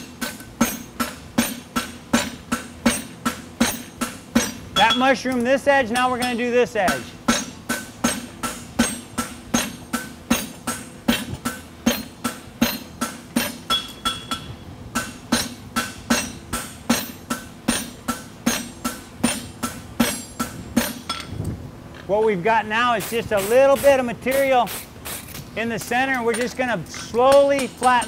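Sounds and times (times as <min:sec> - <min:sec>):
hammer striking metal on anvil: 0:00.0 - 0:21.3, 0:25.8 - 0:28.0.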